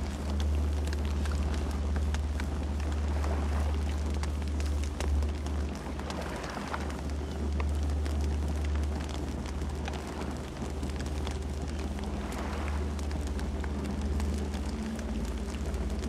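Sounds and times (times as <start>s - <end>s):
campfire flames rumbling: 0.0s - 16.0s
fire crackling and popping: 0.0s - 16.0s.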